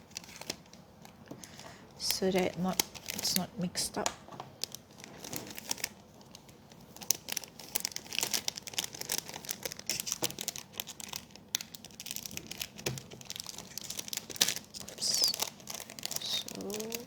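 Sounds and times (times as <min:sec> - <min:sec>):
packaging crinkling and rustling: 0:00.0 - 0:17.0.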